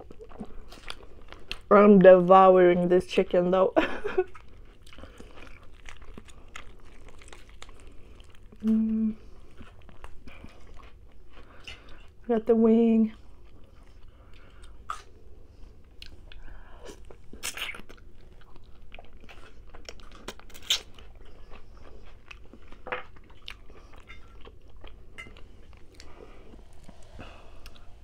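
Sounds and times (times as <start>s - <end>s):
chewing with wet mouth sounds: 0.0s - 2.9s, 4.0s - 12.5s, 13.1s - 28.0s.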